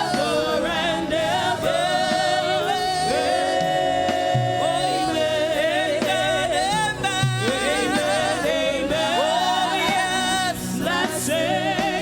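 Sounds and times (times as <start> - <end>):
live band accompaniment: 0.0 - 12.0
singers holding a long note: 0.0 - 12.0.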